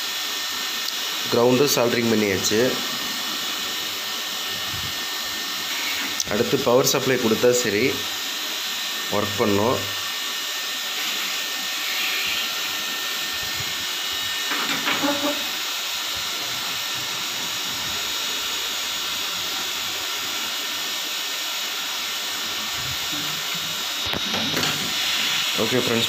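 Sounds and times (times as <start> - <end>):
steady hissing noise: 0.0 - 26.0.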